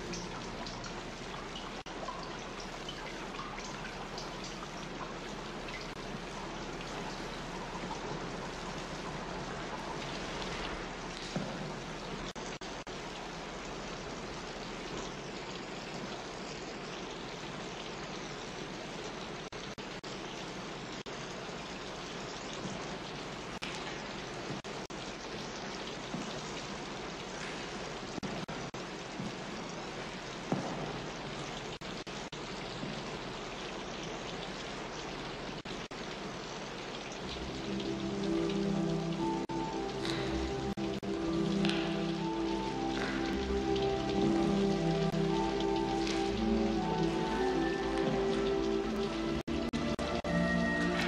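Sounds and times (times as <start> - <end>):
rushing water: 0.0 - 51.0
steady rain-like hiss: 0.0 - 51.0.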